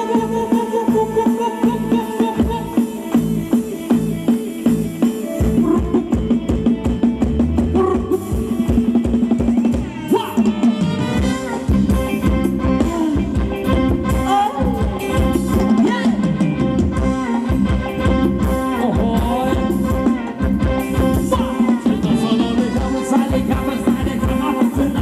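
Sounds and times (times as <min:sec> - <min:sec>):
drum kit beat: 0:00.0 - 0:25.0
live band playing dance music: 0:00.0 - 0:25.0.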